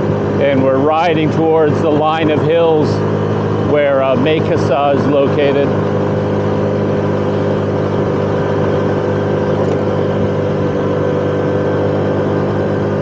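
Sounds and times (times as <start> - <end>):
scooter engine humming: 0.0 - 13.0
wind and road noise: 0.0 - 13.0.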